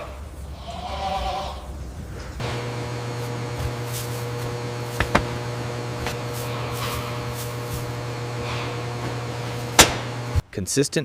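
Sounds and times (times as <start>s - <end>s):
mechanical hum with hiss: 0.0s - 10.5s.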